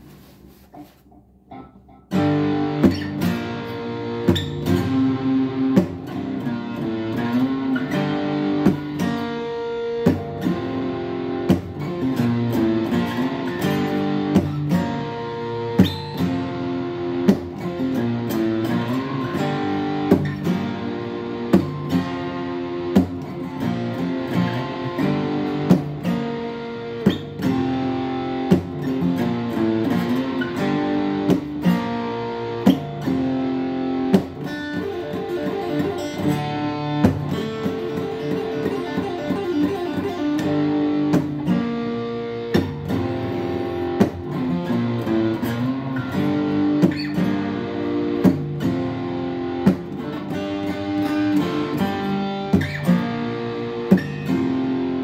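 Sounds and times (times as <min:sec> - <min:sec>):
acoustic guitar picking: 0:00.0 - 0:55.0.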